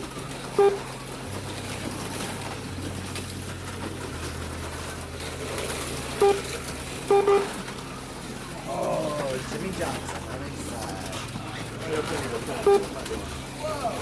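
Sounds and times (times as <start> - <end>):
slot car motor hum: 0.0 - 14.0.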